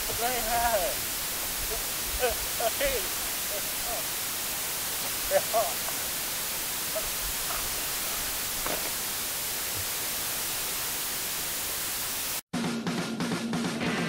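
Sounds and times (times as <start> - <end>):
recording hiss: 0.0 - 12.4.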